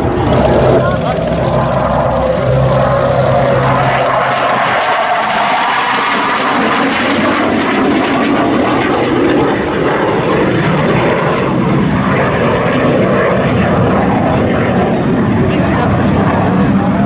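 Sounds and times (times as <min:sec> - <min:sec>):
jets flying past: 0:00.0 - 0:17.0.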